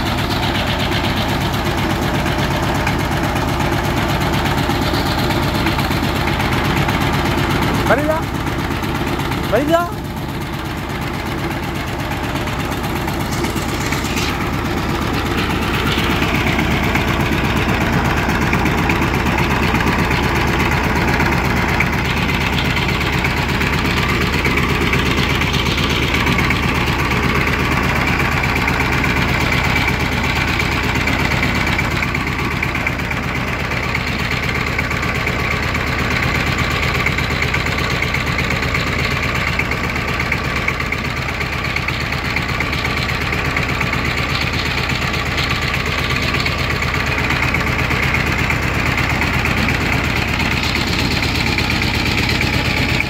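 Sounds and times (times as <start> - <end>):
diesel engine of power tiller: 0.0 - 53.0.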